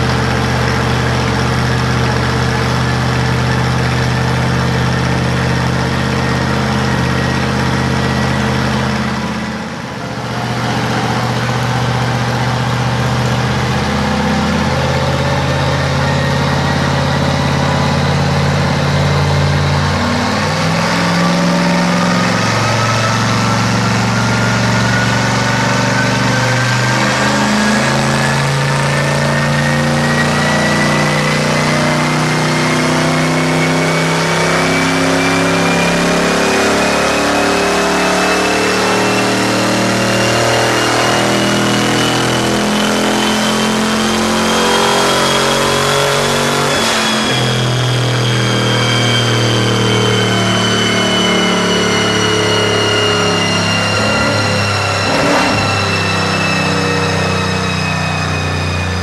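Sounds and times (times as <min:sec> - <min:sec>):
high turbo whine: 0:00.0 - 0:59.0.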